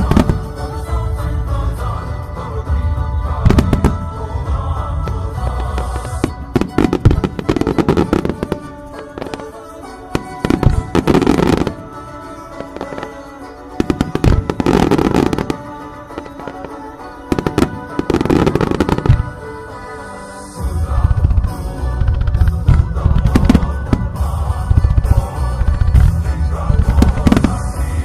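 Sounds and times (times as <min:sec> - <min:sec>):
fireworks cracking and banging: 0:00.0 - 0:00.9, 0:03.4 - 0:19.6, 0:21.0 - 0:28.0
music with sustained tones: 0:00.0 - 0:28.0.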